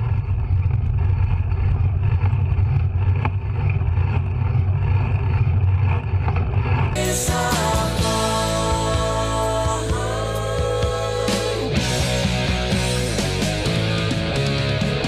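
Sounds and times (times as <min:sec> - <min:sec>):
road rumble: 0:00.0 - 0:15.0.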